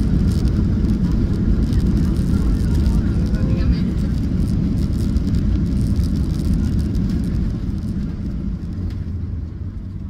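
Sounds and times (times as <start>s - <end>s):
aircraft engine rumble in cabin: 0.0s - 10.0s.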